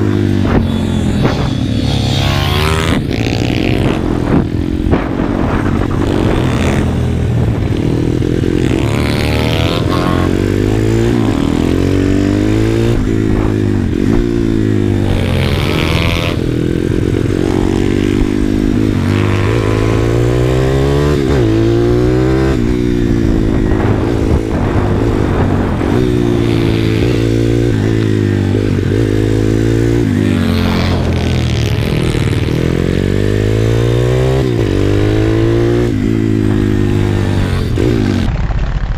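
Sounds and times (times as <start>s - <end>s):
motorbike engine revving hard: 0.0s - 38.3s.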